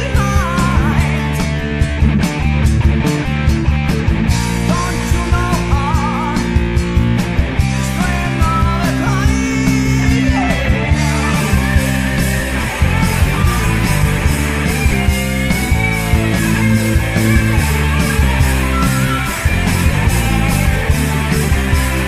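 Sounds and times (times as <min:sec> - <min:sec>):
heavy metal band playing: 0:00.0 - 0:22.0.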